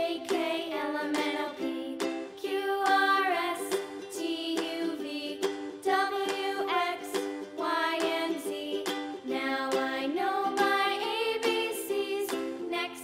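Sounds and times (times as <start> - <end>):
cheerful plucked ukulele music: 0.0 - 13.0.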